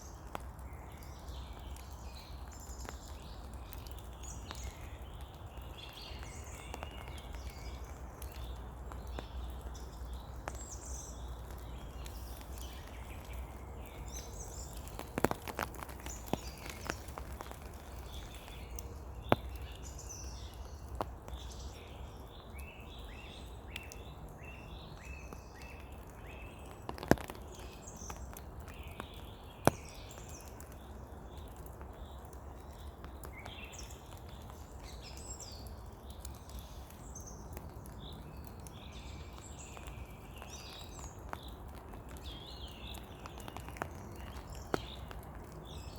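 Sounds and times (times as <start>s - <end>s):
songbirds chirping: 0.0s - 45.9s
steady rain falling: 0.0s - 45.9s.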